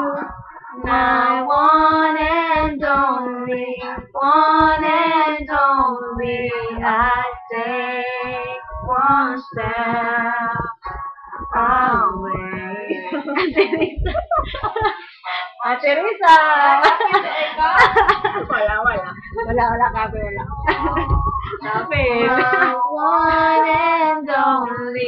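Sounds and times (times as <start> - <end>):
girl singing unaccompanied: 0.0 - 14.1, 16.9 - 25.0.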